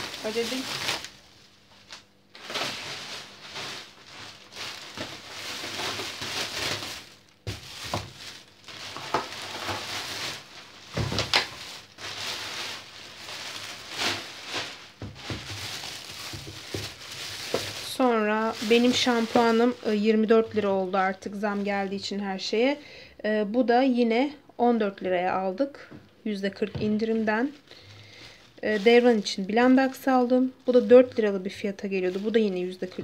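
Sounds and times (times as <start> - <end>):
plastic bag rustling: 0.0 - 22.4, 26.8 - 33.0.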